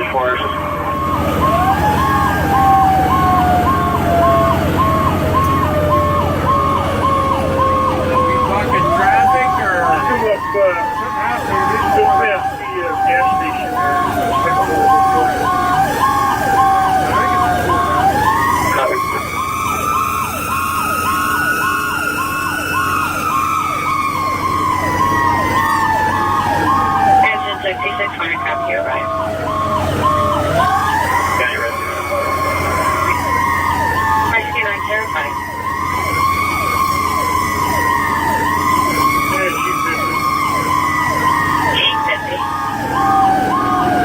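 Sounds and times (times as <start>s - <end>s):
electronic siren cycling quickly: 0.0s - 44.0s
mechanical siren wail winding down: 0.0s - 44.0s
truck engine humming: 0.0s - 44.0s.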